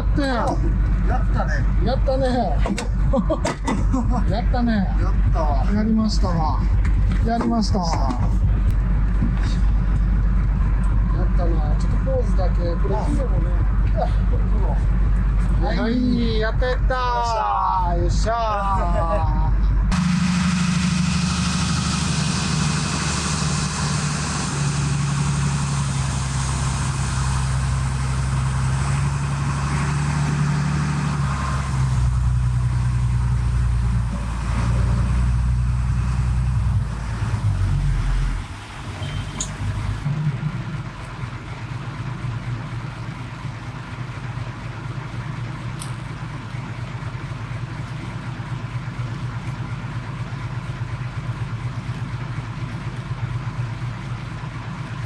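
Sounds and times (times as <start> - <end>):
boat engine running: 0.0 - 55.0
wind: 0.0 - 55.0.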